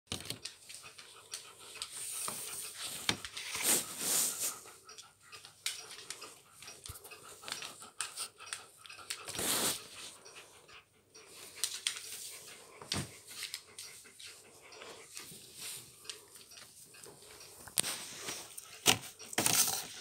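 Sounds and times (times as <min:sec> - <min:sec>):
rustling and scratching: 0:00.1 - 0:20.0
pet snuffling and breathing: 0:00.2 - 0:20.0.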